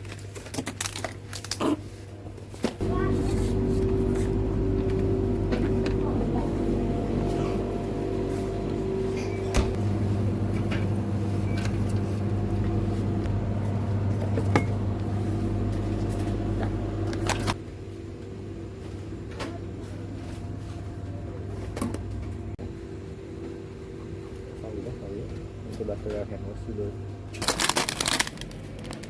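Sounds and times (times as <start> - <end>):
electrical appliance hum: 0.0 - 29.0.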